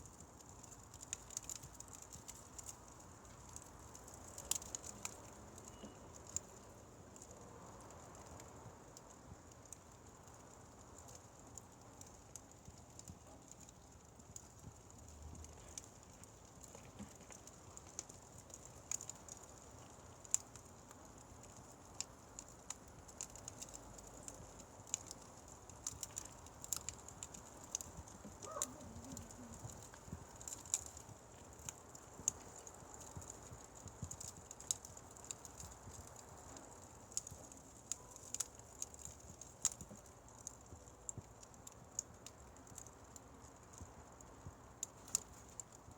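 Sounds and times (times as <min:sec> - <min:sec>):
faint steady hiss: 0:00.0 - 0:45.9
fire crackling and popping: 0:00.0 - 0:45.9.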